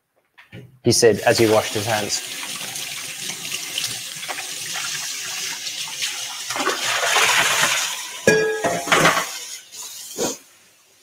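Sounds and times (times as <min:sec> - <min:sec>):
tap water running: 0:01.1 - 0:10.2.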